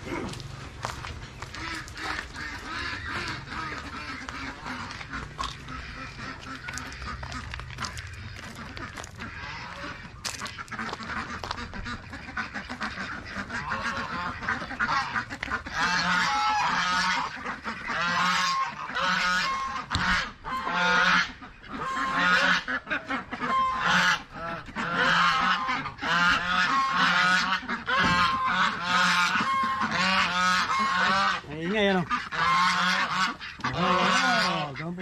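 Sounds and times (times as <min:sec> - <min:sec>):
geese honking: 0:00.0 - 0:35.0.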